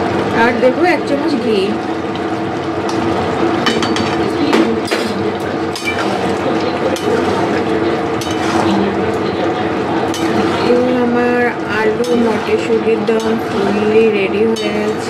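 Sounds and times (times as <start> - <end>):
curry simmering: 0.0 - 15.0
steady background hum: 0.0 - 15.0.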